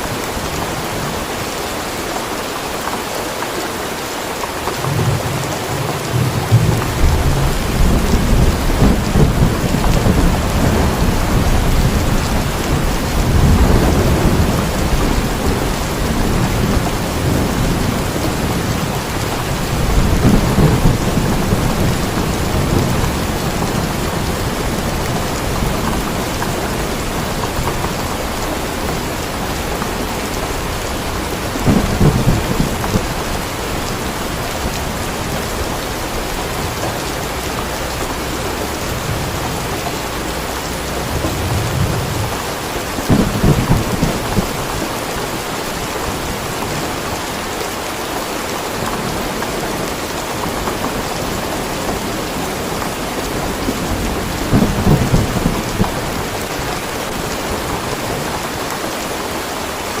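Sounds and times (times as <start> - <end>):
heavy rain: 0.0 - 60.0
low thunder rumbling: 4.7 - 47.3, 48.9 - 58.6.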